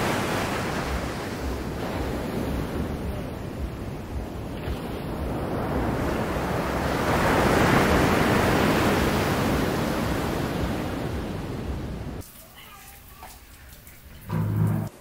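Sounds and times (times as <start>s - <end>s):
waves breaking on beach: 0.0s - 12.2s.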